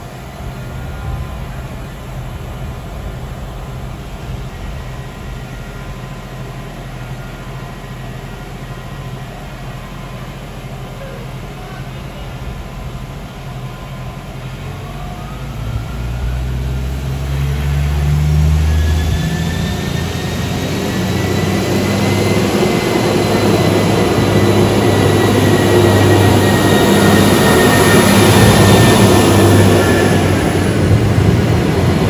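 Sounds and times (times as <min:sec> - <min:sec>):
diesel train engines pulling away: 0:00.0 - 0:32.0
faint rising whine: 0:00.0 - 0:32.0.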